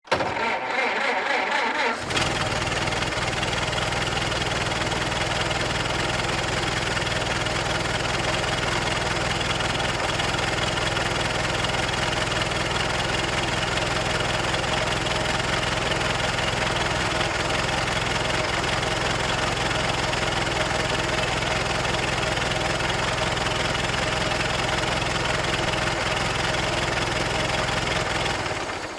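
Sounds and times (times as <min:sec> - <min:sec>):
car engine cranking and idling: 0:00.0 - 0:28.9.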